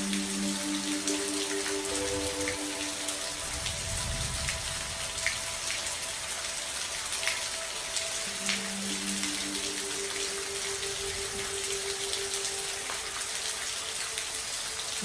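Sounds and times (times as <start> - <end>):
raindrops ticking: 0.0 - 15.0
steady rain hiss: 0.0 - 15.0.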